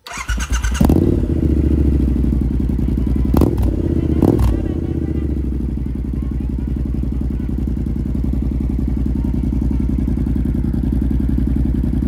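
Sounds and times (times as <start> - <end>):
motorcycle engine idling: 0.1 - 12.0.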